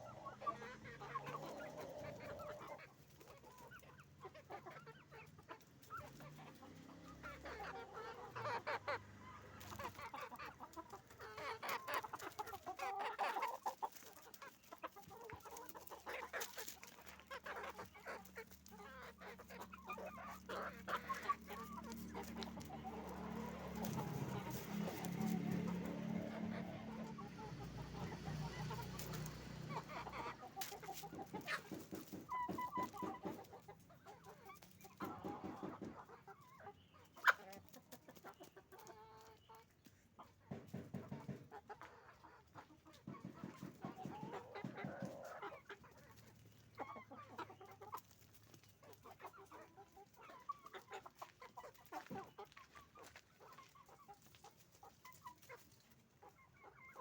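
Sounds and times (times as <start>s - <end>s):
chickens clucking and calling: 0.0s - 57.0s.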